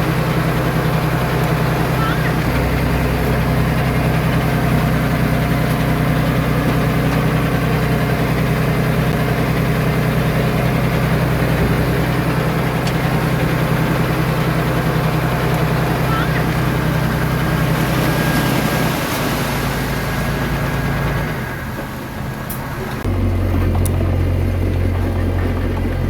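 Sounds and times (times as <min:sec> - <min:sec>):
bulldozer diesel engine idling: 0:00.0 - 0:26.0.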